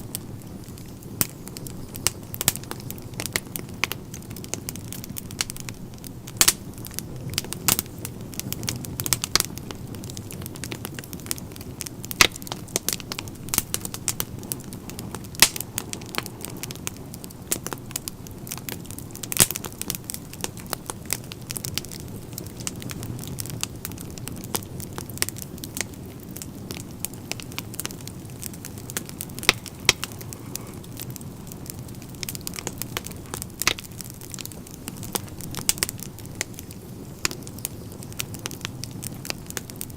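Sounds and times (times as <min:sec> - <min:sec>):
fire popping and snapping: 0:00.0 - 0:39.9
low rumble of flames: 0:00.0 - 0:39.9.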